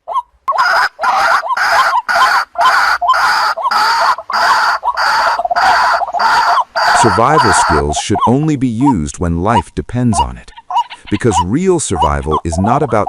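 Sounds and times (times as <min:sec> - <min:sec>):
waterhen harsh croaking calls: 0:00.0 - 0:13.0.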